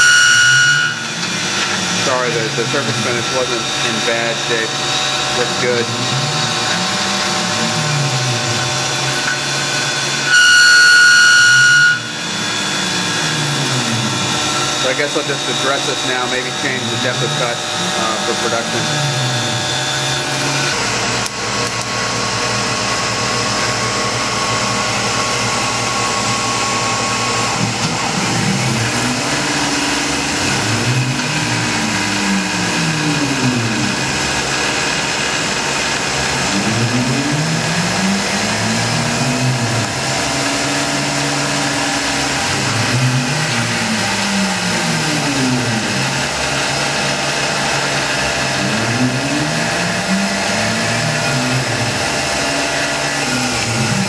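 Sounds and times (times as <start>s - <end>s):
stepper motor whine: 0.0s - 54.0s
milling spindle and coolant spray: 1.2s - 7.8s, 12.2s - 54.0s.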